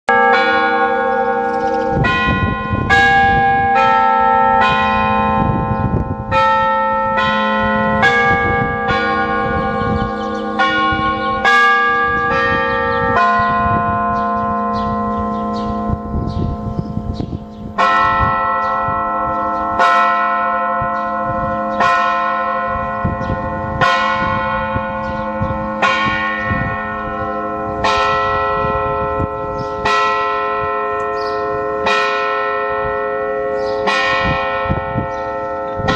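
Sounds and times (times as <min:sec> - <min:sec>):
church bells ringing: 0:00.1 - 0:35.9.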